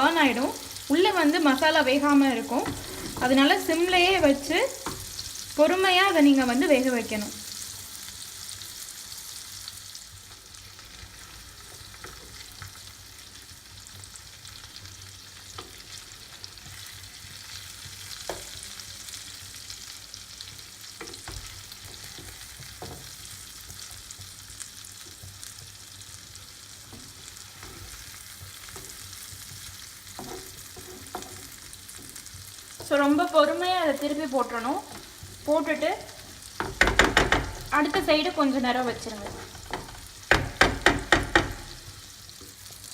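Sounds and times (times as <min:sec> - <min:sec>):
oil sizzling around frying fish: 0:00.0 - 0:42.9.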